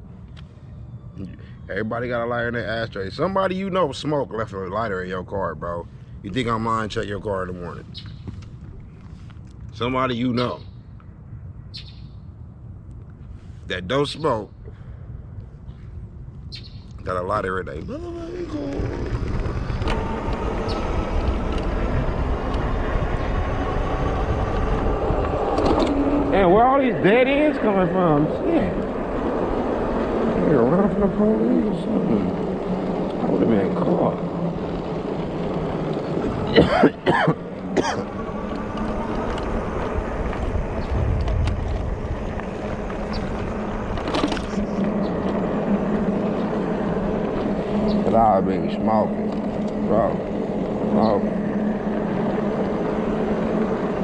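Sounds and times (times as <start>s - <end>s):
faint steady whine: 0.0s - 54.0s
road noise: 0.0s - 54.0s
steady low hum: 0.0s - 54.0s
wind buffeting microphone: 0.0s - 54.0s.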